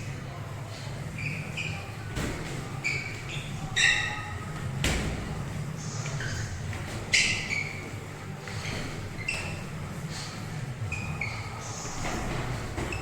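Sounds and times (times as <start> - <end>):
shoes squeaking on gym floor: 0.7 - 13.0.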